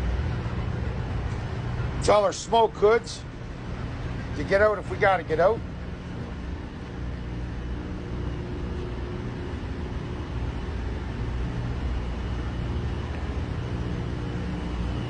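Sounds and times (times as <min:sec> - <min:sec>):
engine-room machinery droning: 0:00.0 - 0:15.0.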